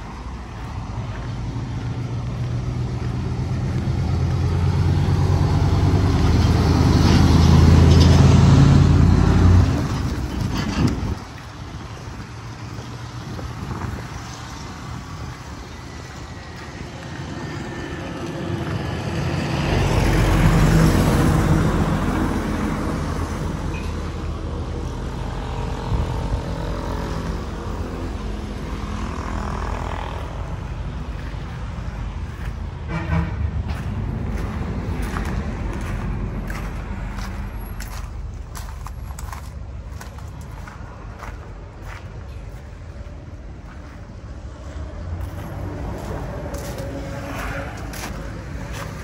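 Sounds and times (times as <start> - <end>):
vehicle passing by: 0.0 - 49.0.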